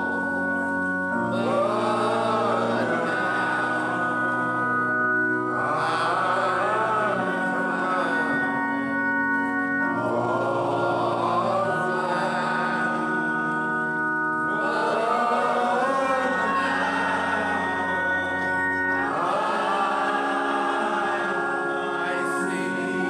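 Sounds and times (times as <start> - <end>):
gospel singers with vibrato: 0.0 - 23.0
sustained keyboard chords: 0.0 - 23.0.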